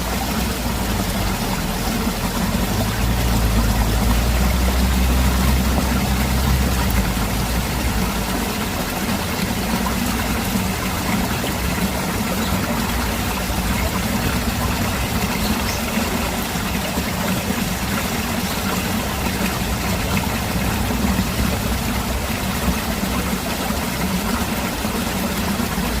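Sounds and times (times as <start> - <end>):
stream water rushing over rocks: 0.0 - 26.0.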